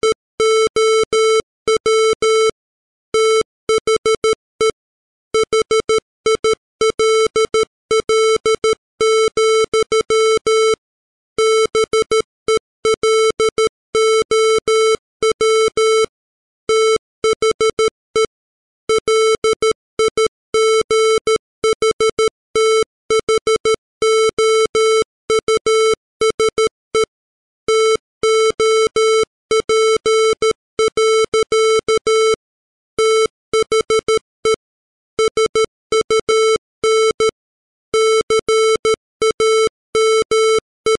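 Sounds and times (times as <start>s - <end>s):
morse code tone beeps: 0.0s - 2.6s, 3.2s - 4.8s, 5.4s - 10.8s, 11.4s - 16.1s, 16.7s - 18.3s, 18.9s - 27.1s, 27.7s - 32.4s, 33.0s - 34.6s, 35.2s - 37.4s, 38.0s - 40.9s.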